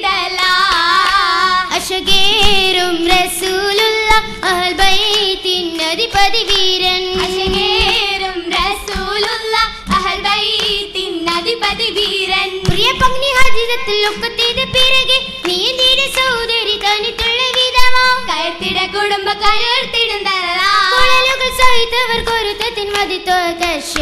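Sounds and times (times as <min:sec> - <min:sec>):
girls singing together: 0:00.0 - 0:24.0
sharp hand claps: 0:00.3 - 0:18.9, 0:21.0 - 0:24.0.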